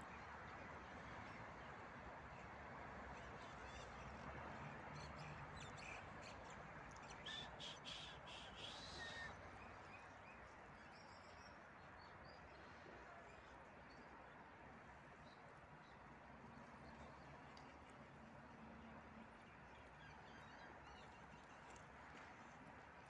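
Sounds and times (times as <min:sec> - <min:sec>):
faint outdoor background hum: 0:03.2 - 0:23.0.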